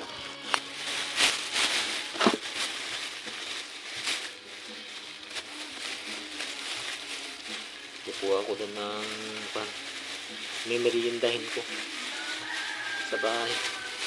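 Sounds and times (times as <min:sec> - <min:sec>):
crinkling and crackling: 0:00.0 - 0:14.0.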